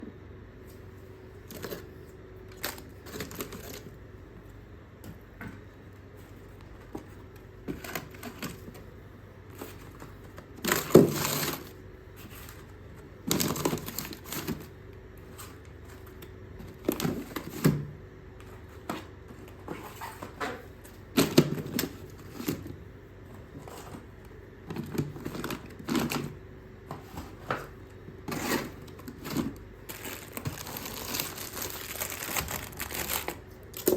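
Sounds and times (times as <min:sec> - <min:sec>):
faint steady hum: 0:00.0 - 0:33.9
groceries knocking and clattering: 0:01.4 - 0:04.0, 0:06.7 - 0:08.9, 0:09.5 - 0:33.9.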